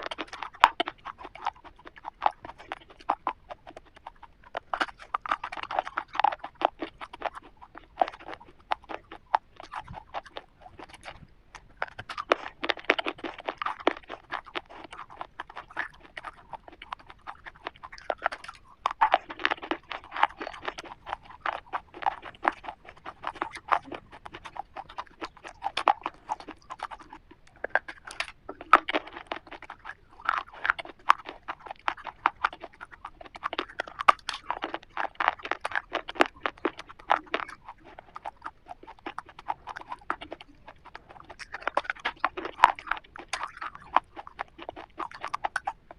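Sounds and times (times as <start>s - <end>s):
crunching and chewing wafer bar: 0.0s - 45.9s.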